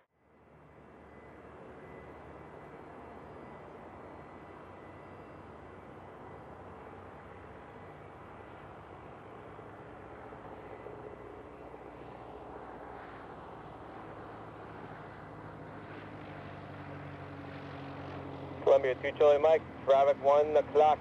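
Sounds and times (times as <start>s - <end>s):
aircraft engine rumble: 0.2s - 21.0s.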